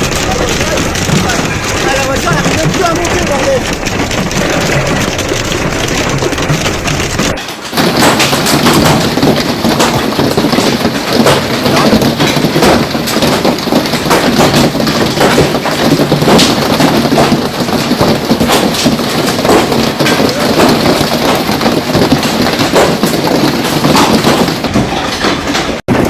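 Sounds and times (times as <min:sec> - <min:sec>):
hail and rain pelting down: 0:00.0 - 0:26.0.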